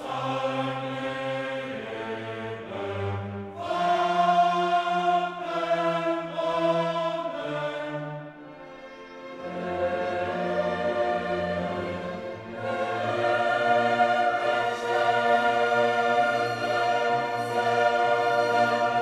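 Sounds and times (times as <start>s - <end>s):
choir singing long held notes: 0.0s - 19.0s
orchestral accompaniment: 0.8s - 19.0s.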